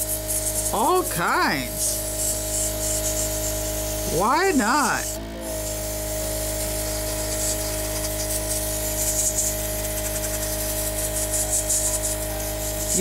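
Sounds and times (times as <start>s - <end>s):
air spraying hiss: 0.0s - 13.0s
electric air pump whining: 0.0s - 13.0s.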